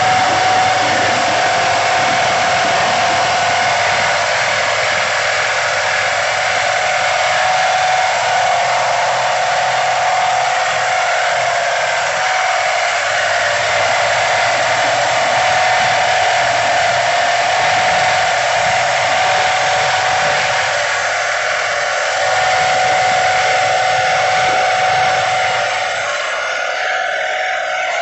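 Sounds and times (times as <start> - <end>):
air compressor running: 0.0 - 28.0
high-pitched whine: 0.0 - 28.0.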